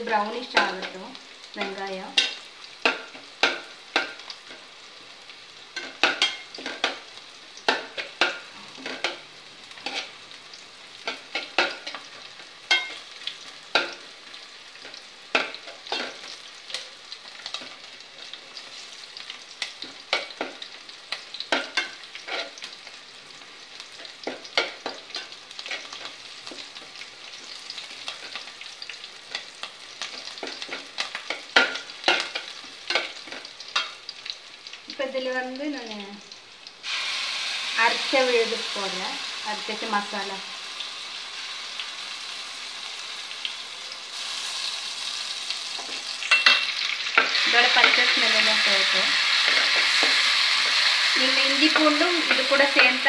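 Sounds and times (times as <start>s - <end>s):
onions sizzling in oil: 0.0s - 53.0s.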